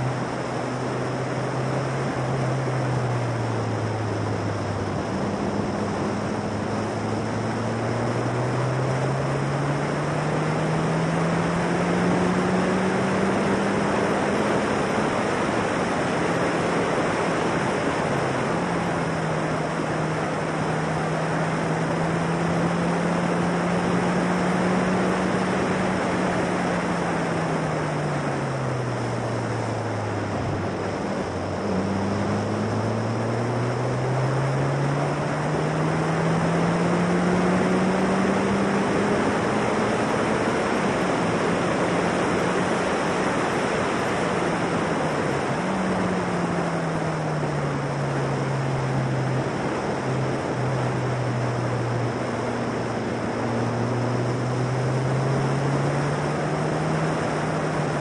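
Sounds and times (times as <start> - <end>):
race car engine: 0.0 - 58.0.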